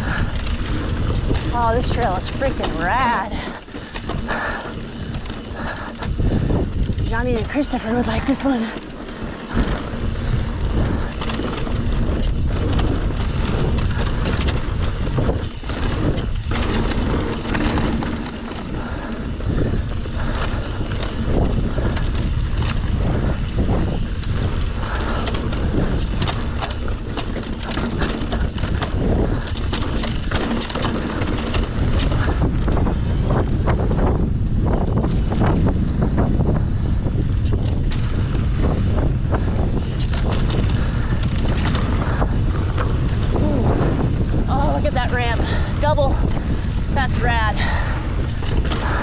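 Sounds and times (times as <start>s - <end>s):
bike knocks and rattles: 0.0s - 49.0s
tyre noise on dirt: 0.0s - 49.0s
wind rushing over microphone: 0.0s - 49.0s.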